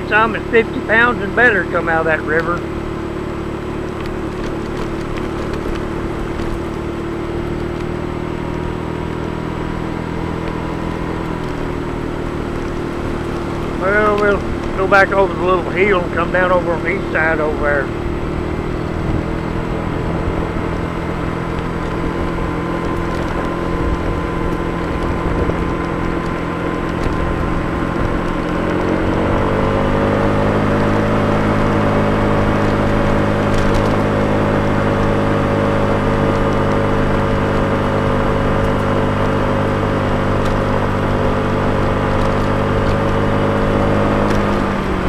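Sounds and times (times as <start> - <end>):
motor scooter engine running: 0.0 - 45.0.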